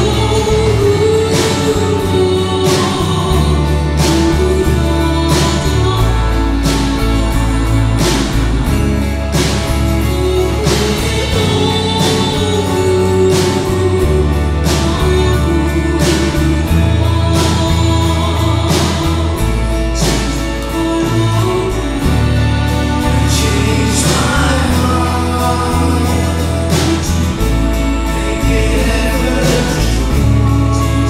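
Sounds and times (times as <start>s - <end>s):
people singing: 0.0s - 31.0s
worship band playing slow song: 0.0s - 31.0s.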